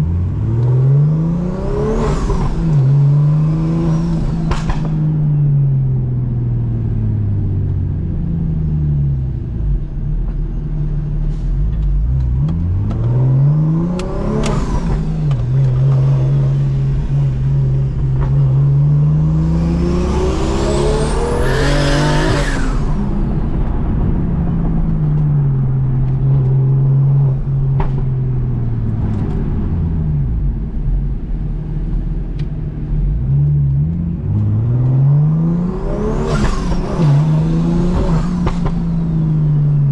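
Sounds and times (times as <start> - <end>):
car engine revving: 0.0 - 10.0, 11.8 - 39.9.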